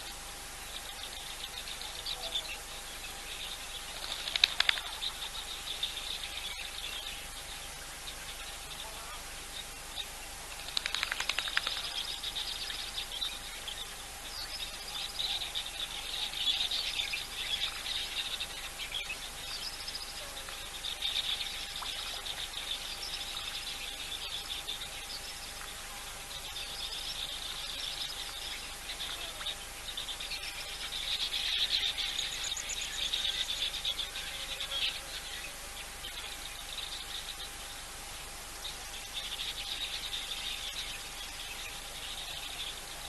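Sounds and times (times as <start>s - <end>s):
birds chirping and trilling: 0.0s - 43.0s.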